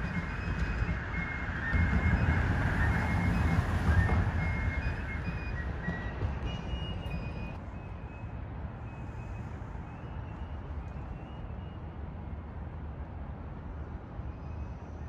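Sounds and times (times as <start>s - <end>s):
distant traffic hum: 0.0s - 15.0s.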